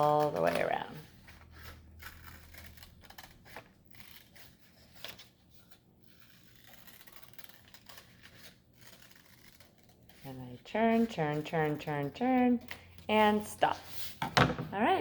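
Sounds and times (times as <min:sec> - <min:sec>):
scissors snipping paper: 0:00.0 - 0:13.8.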